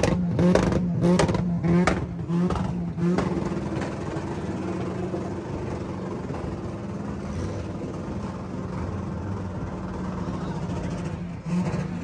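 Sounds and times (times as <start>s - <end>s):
car engine held at steady revs: 0.0s - 12.0s.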